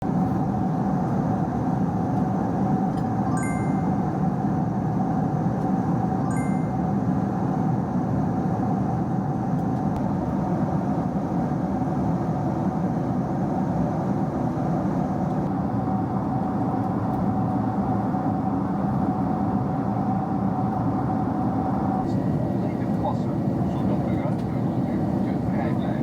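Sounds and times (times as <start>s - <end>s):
jet engines droning: 0.0s - 26.0s
mid-pitched hum: 0.1s - 26.0s.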